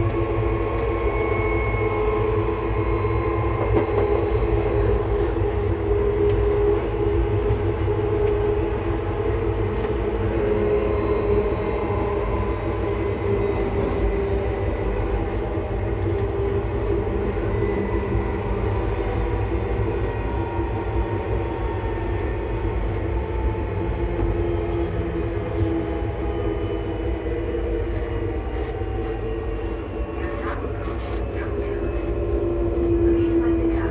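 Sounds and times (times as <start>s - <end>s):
low rumble of train wheels: 0.0s - 33.9s
traction motors whining: 0.0s - 33.9s.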